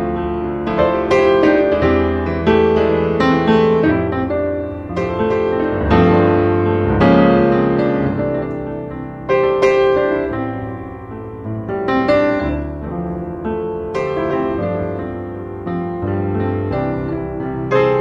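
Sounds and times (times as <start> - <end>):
slow piano chords: 0.0 - 18.0.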